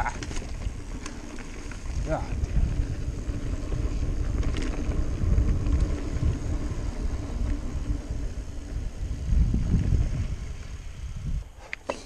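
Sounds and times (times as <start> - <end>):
bike clicks and rattles: 0.0 - 10.9
bike tyres rumbling on dirt: 0.0 - 11.6.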